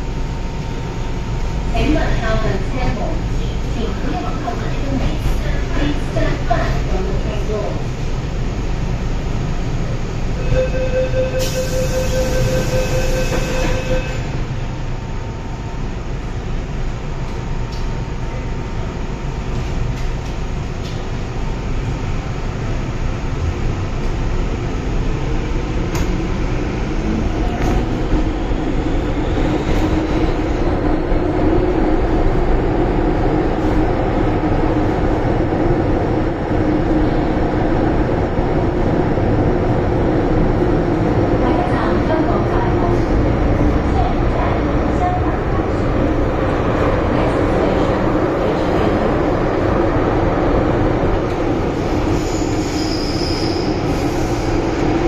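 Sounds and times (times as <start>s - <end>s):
standing train rumble: 0.0s - 55.0s.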